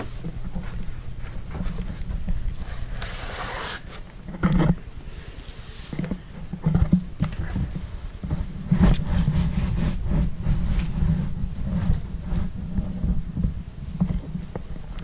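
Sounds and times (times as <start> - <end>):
microphone handling noise: 0.0 - 15.0.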